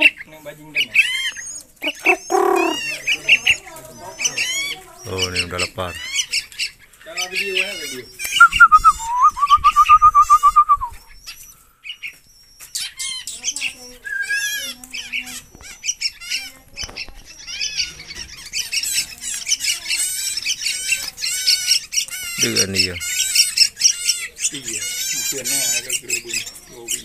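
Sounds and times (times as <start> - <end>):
birds chirping: 0.0 - 27.0
rapid bird trill: 0.0 - 27.0.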